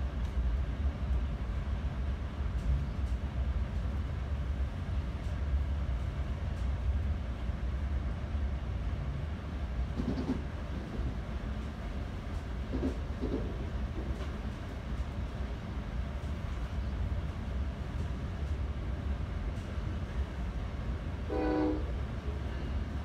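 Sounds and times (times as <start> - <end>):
train car rumbling on rails: 0.0 - 23.0.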